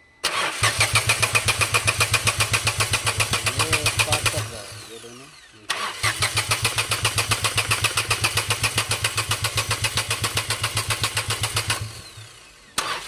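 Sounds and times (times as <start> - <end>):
engine cranking on starter: 0.2 - 13.0.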